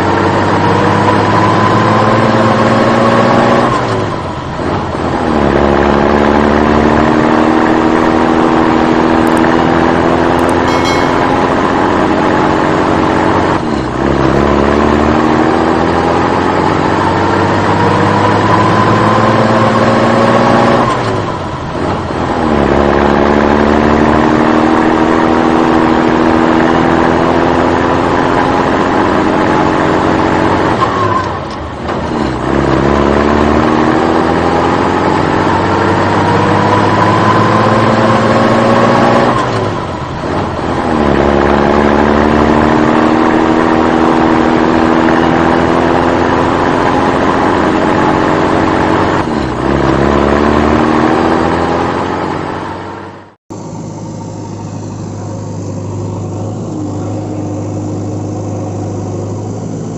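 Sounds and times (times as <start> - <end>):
engine revving: 0.0 - 11.0, 12.4 - 59.9.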